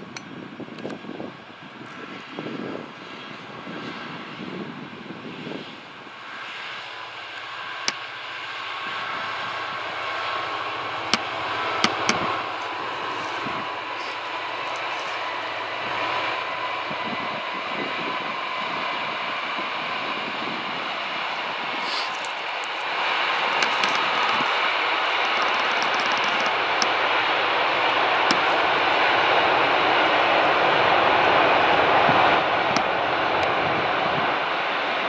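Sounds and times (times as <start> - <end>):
diesel locomotive engine: 0.0 - 35.0.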